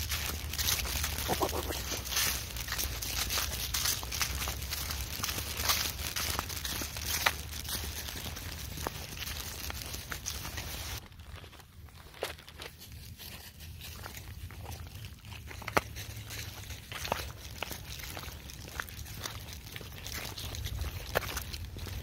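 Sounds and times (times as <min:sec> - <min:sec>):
footsteps crunching dry leaves: 0:00.0 - 0:22.0.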